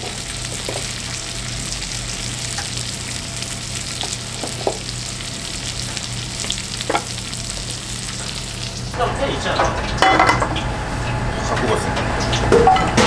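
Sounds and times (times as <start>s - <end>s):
pan contents stirred clattering: 0.0s - 10.6s
food sizzling in frying pan: 0.0s - 11.2s.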